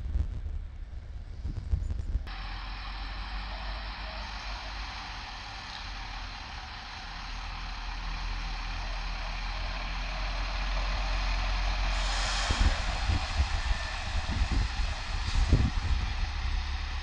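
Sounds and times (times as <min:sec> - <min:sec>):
lorry engine: 0:02.3 - 0:17.0.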